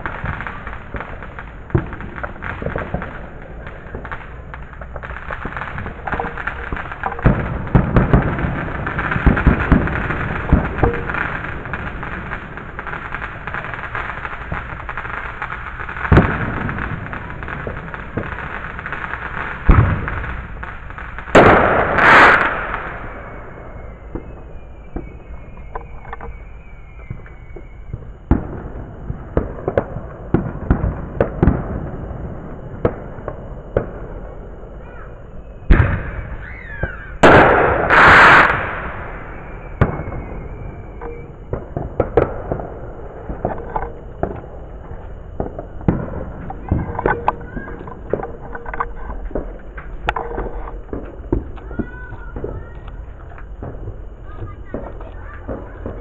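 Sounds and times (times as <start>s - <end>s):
fireworks bangs and crackling: 0.0s - 56.0s
rushing firework burst: 0.0s - 56.0s.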